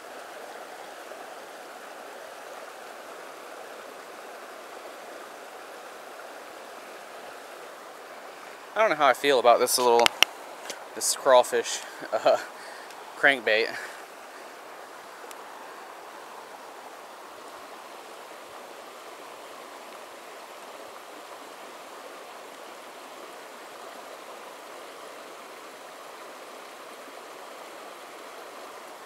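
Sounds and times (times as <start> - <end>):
creek flowing over stones: 0.0 - 29.0.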